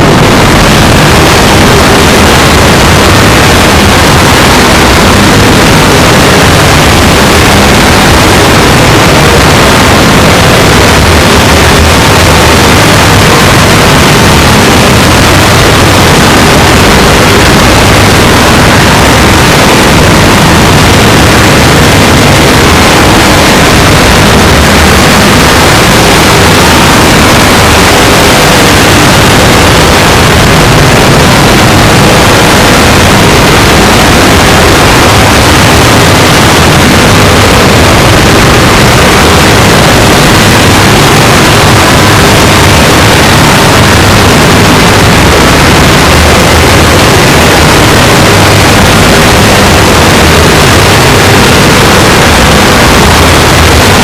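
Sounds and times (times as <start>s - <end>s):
harsh distorted noise: 0.0s - 54.0s.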